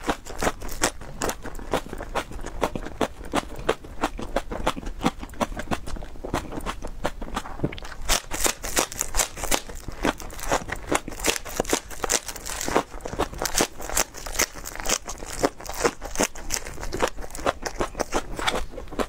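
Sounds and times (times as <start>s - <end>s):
crunching raw green onion: 0.0s - 19.0s.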